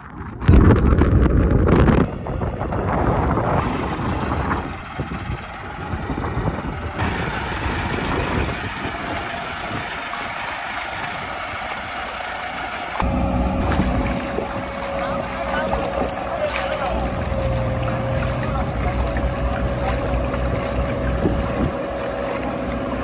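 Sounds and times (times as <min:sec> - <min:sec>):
heavy diesel tractor engines running: 0:02.1 - 0:23.0.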